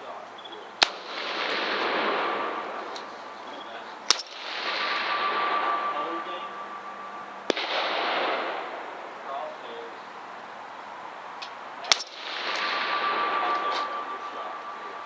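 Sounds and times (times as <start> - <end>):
rifle shots with echo: 0.8 - 10.0, 11.8 - 15.0.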